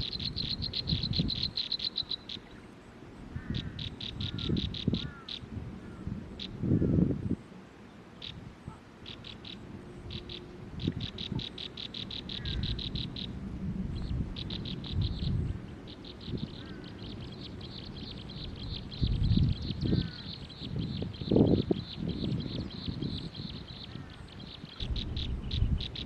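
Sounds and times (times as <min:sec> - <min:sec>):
small bird chirping: 0:00.0 - 0:02.7, 0:03.4 - 0:05.5, 0:08.2 - 0:13.4, 0:14.0 - 0:26.0.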